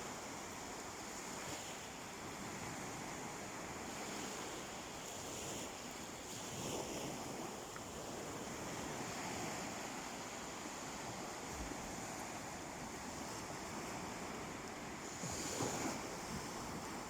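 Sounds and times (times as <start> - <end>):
waves washing onto beach: 0.0 - 17.0.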